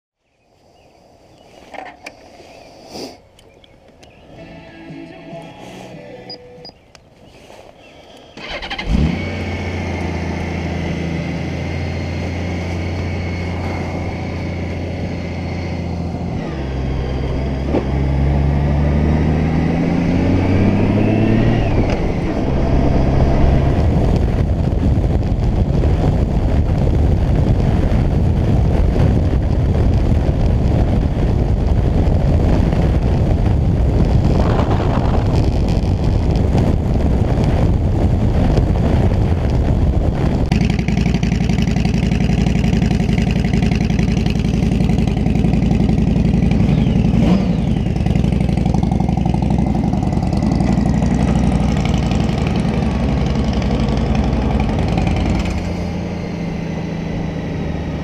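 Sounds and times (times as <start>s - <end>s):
wind and road noise: 0.2s - 58.0s
motorcycle engine idling and accelerating: 3.4s - 58.0s.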